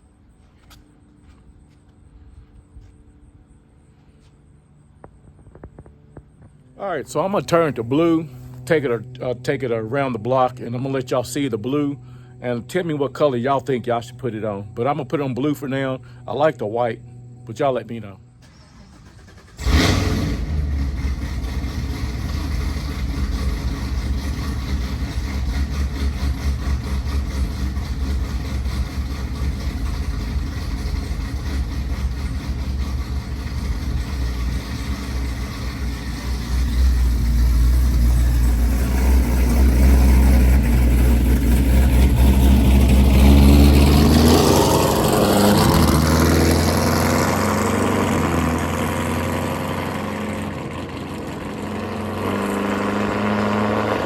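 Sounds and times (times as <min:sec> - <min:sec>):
car engine deep rumble: 0:00.0 - 0:54.0.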